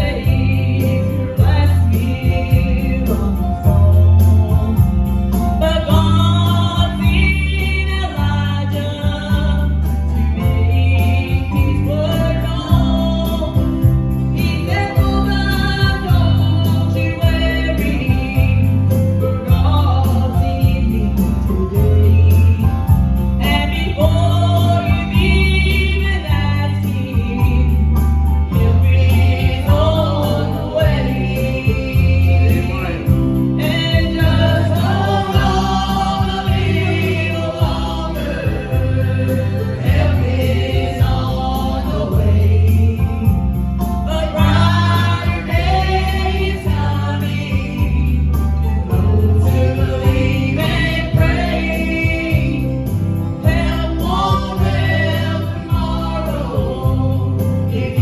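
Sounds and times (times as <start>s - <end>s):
gospel singing in harmony: 0.0s - 58.0s
pulsing bass: 0.0s - 58.0s.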